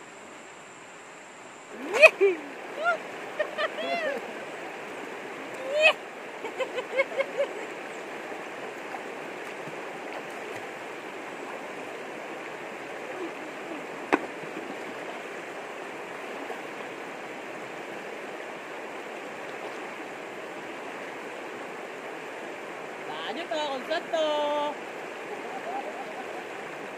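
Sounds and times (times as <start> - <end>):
river rushing over rocks: 1.7 - 26.9.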